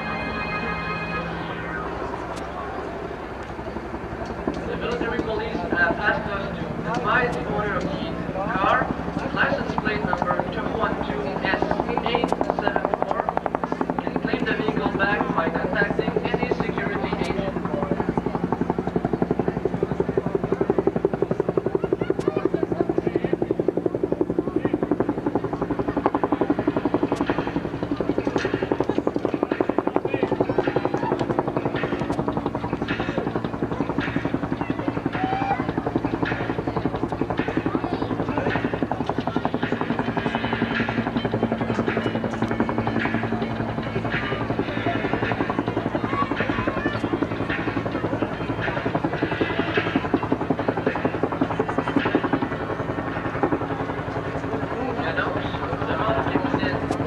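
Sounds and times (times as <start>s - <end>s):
faint voices: 0.0s - 57.0s
helicopter rotor beating: 0.0s - 57.0s.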